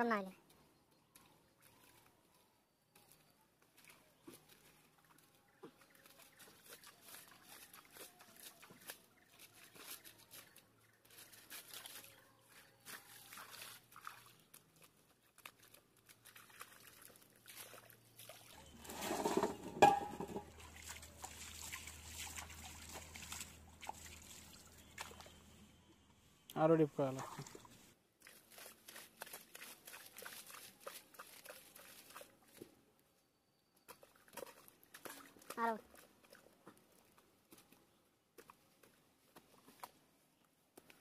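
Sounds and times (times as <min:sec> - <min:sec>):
hands squelching wet mud: 0:01.0 - 0:19.6, 0:20.4 - 0:25.5, 0:26.5 - 0:32.9, 0:33.8 - 0:41.0
water splashing and sloshing: 0:01.0 - 0:33.0, 0:33.8 - 0:41.0.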